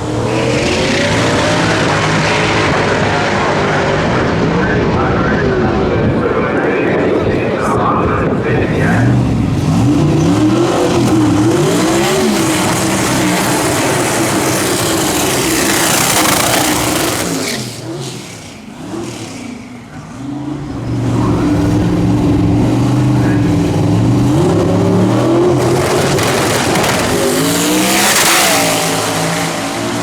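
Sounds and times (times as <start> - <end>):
dragster engine revving: 0.0 - 30.0
engine full throttle rush: 0.0 - 30.0.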